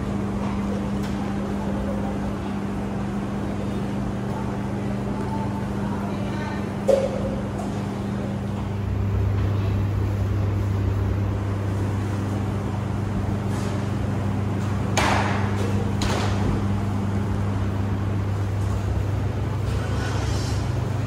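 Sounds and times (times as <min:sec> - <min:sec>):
washers and dryers humming: 0:00.0 - 0:21.0.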